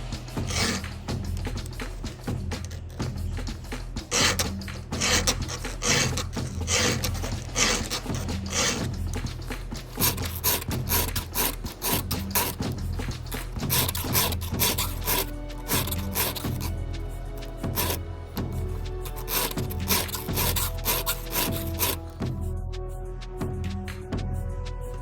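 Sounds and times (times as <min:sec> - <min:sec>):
file rasping on chainsaw chain: 0:00.0 - 0:03.2, 0:04.1 - 0:22.2.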